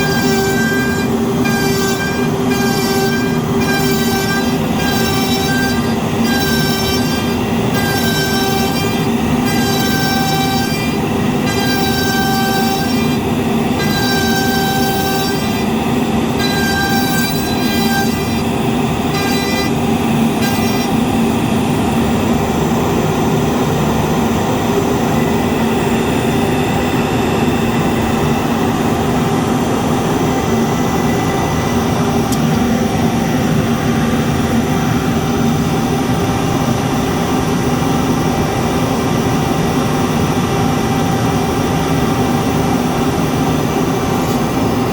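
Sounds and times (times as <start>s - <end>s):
dust extractor drone: 0.0s - 44.9s
router spindle cutting whine: 0.0s - 44.9s.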